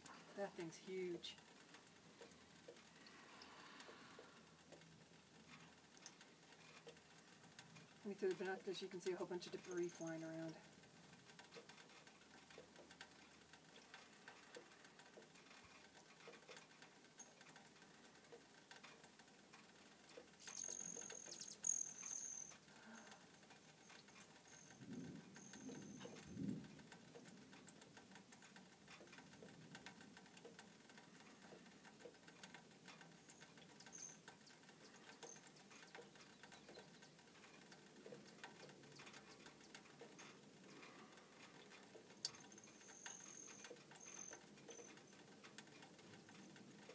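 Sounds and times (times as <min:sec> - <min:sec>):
faint outdoor background hiss: 0:00.0 - 0:46.9
small ticks: 0:01.4 - 0:46.9.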